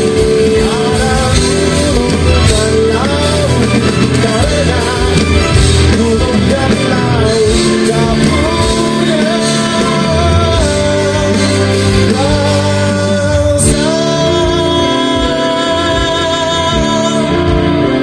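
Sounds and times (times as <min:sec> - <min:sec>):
guitar strumming: 0:00.0 - 0:18.0
man singing into microphone: 0:00.0 - 0:18.0.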